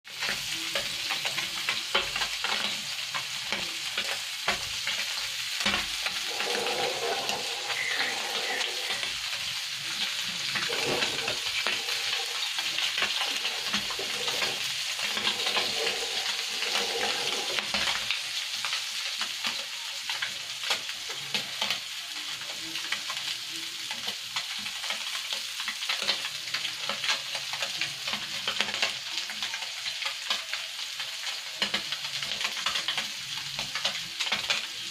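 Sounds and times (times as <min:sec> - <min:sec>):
fish deep-frying in oil: 0:00.1 - 0:34.9.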